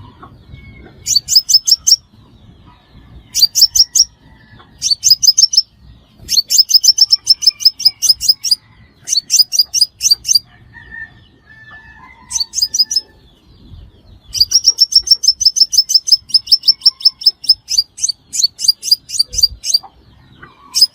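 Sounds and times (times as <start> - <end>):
bird singing high chirps: 0.0 - 20.9.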